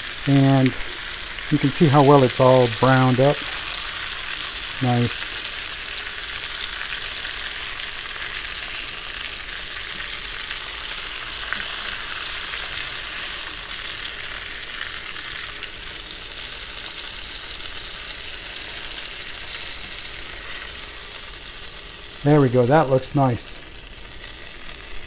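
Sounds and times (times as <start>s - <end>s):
meat sizzling in a pan: 0.0s - 25.0s.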